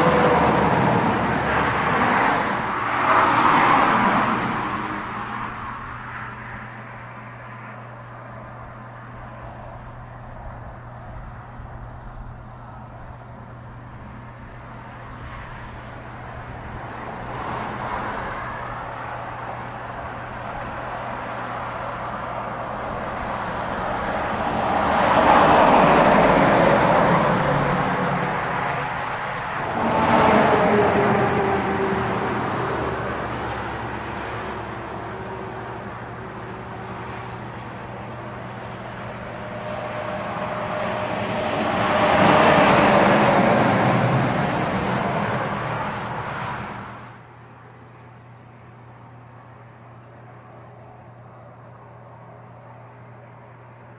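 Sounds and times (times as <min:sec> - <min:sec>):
heavy trucks passing at speed: 0:00.0 - 0:53.9.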